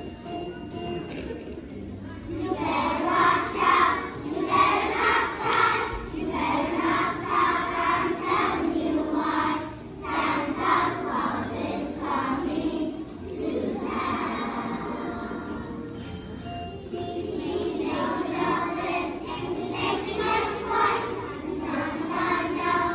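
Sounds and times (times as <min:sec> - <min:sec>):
children singing together: 0:02.3 - 0:16.0, 0:16.9 - 0:22.9.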